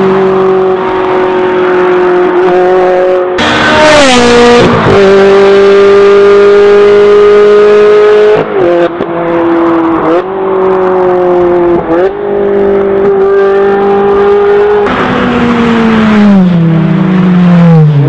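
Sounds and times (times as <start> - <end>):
sports car engine passing at high revs: 0.0 - 18.0.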